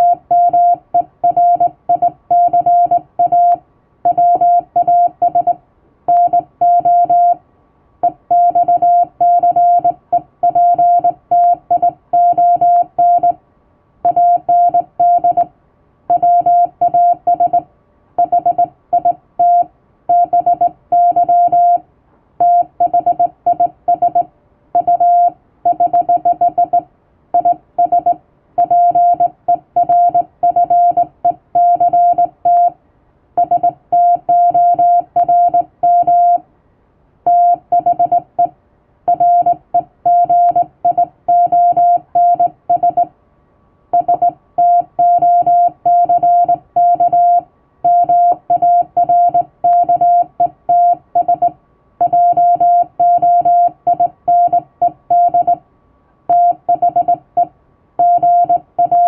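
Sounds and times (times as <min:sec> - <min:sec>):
morse code beeps: 0:00.0 - 0:07.4, 0:08.0 - 0:13.4, 0:14.0 - 0:15.5, 0:16.1 - 0:21.8, 0:22.4 - 0:32.8, 0:33.4 - 0:36.4, 0:37.3 - 0:38.5, 0:39.1 - 0:43.1, 0:44.0 - 0:55.6, 0:56.3 - 0:59.0.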